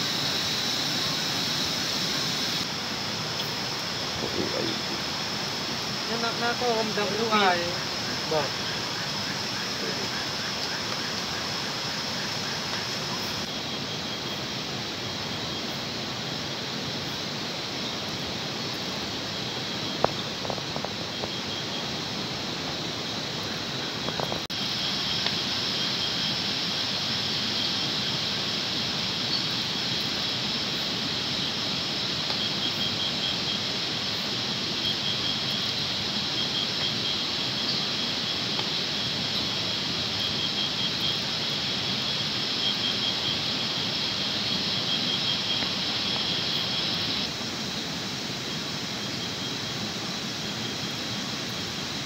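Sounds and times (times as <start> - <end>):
night insects trilling: 0.0 - 52.0
pulsing insect chirp: 0.0 - 52.0.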